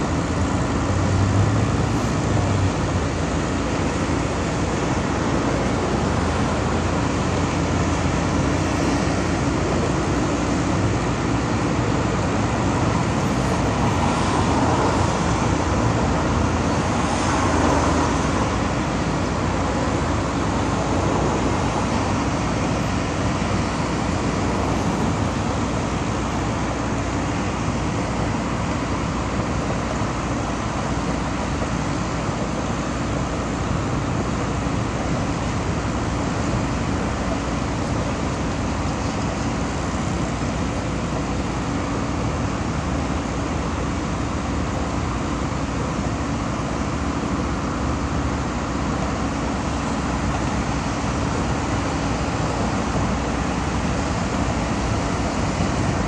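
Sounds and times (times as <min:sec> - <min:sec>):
highway traffic noise: 0:00.0 - 0:56.0.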